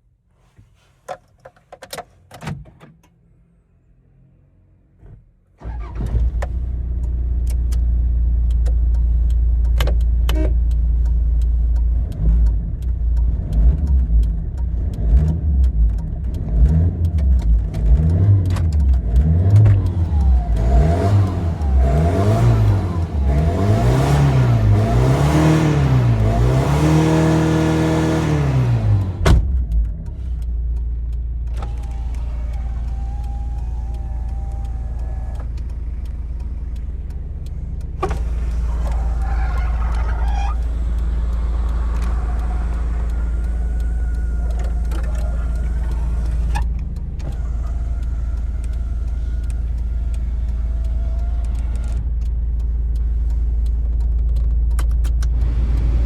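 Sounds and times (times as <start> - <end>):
diesel engine starting and idling: 3.2 - 56.0
engine revving: 5.0 - 56.0.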